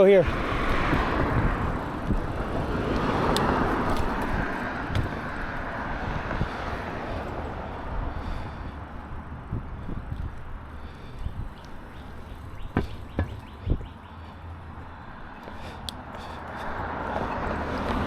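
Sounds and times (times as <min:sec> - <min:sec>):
wind and bicycle tyre noise: 0:00.0 - 0:18.0.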